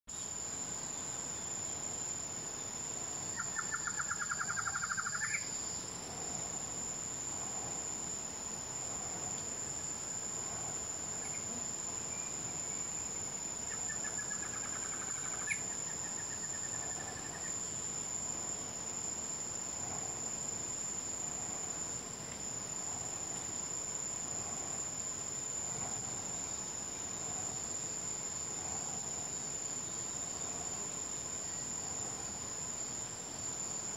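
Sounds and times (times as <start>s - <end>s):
insects buzzing on high tone: 0.1s - 33.9s.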